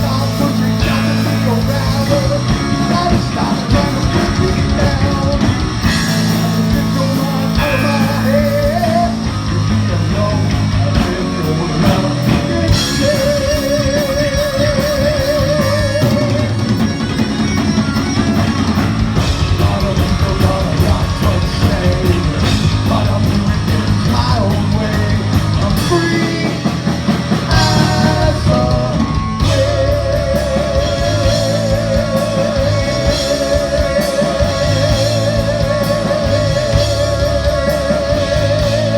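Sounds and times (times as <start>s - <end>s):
electric guitar lead notes: 0.0s - 38.9s
heavy metal music: 0.0s - 38.9s.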